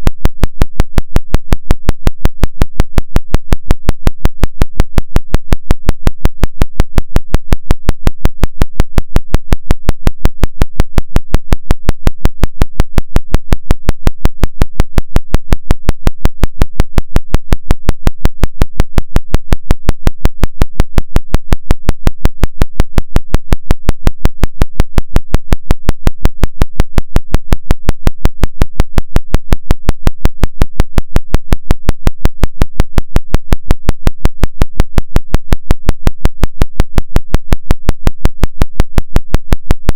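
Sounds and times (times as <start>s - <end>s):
pulsing low synthetic tone: 0.0s - 39.9s.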